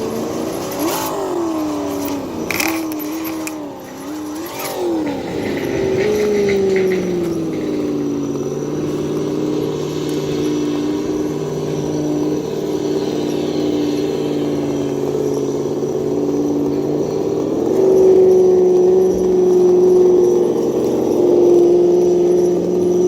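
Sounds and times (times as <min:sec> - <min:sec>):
simulated engine sound from speaker: 0:00.0 - 0:23.0.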